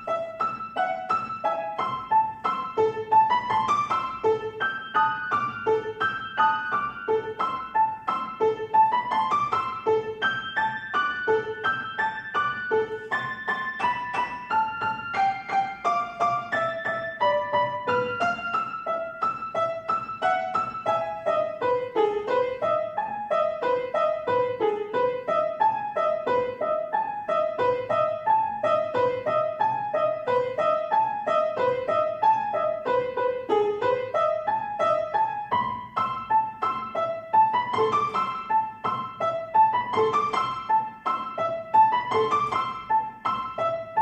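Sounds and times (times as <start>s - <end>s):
solo piano: 0.0s - 44.0s.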